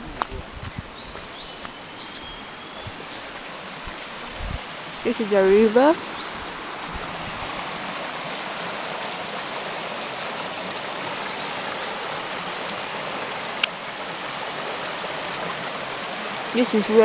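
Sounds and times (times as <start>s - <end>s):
water flowing over stones: 0.0s - 17.0s.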